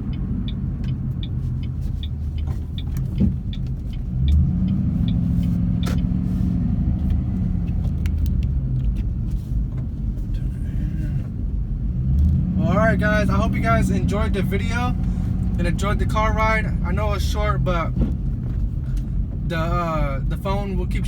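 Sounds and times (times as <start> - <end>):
car engine rumble: 0.0 - 21.0
road and wind noise: 0.0 - 21.0.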